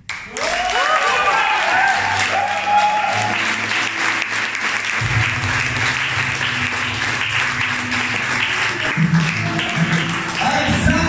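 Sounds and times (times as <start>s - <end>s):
audience applauding: 0.0s - 11.0s
music: 0.0s - 11.0s.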